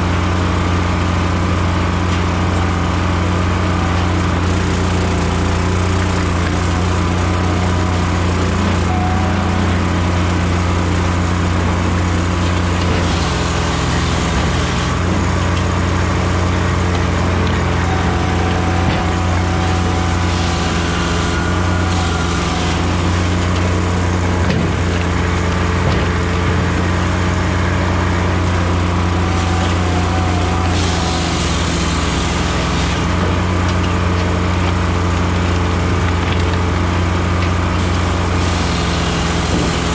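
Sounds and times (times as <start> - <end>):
chainsaw bar cutting logs: 0.0 - 39.9
engine running steadily: 0.0 - 39.9.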